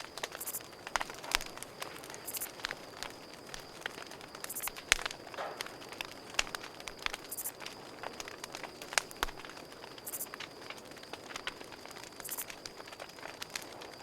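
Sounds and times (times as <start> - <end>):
campfire crackling: 0.0 - 14.0
cricket trill: 0.0 - 14.0.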